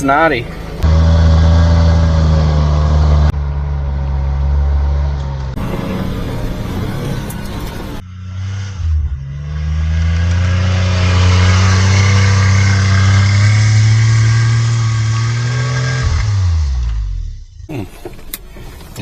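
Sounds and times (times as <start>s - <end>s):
small truck engine revving: 0.8s - 18.4s.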